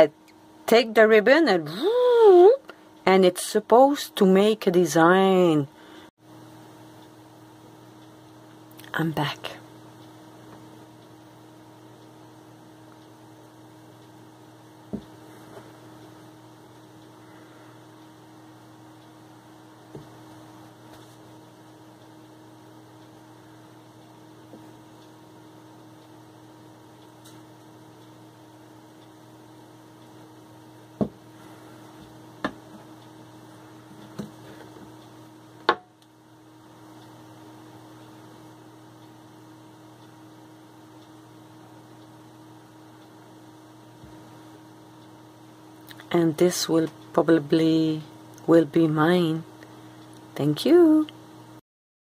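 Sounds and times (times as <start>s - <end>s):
low electrical hum: 0.0s - 51.6s.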